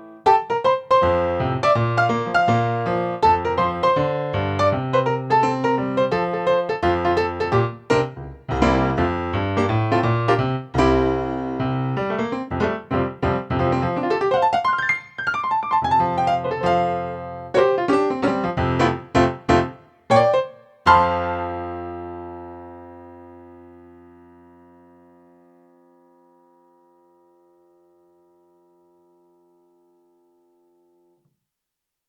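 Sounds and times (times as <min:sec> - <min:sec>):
keyboard playing piano chords: 0:00.0 - 0:27.0.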